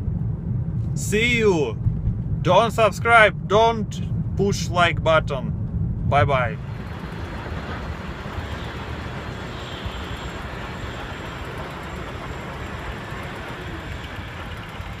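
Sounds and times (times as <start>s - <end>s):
locomotive rumbling: 0.0s - 15.0s.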